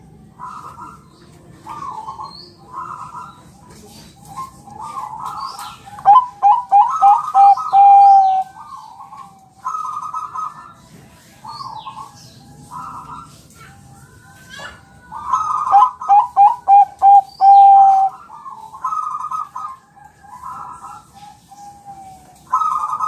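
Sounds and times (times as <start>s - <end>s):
dove cooing: 0.0s - 10.8s, 14.6s - 23.0s.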